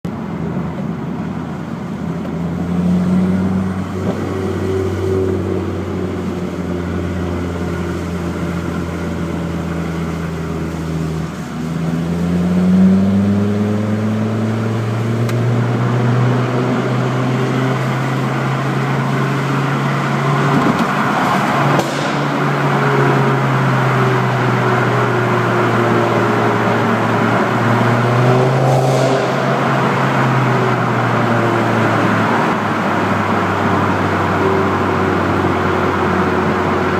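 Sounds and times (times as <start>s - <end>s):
car engine accelerating: 1.8s - 36.9s.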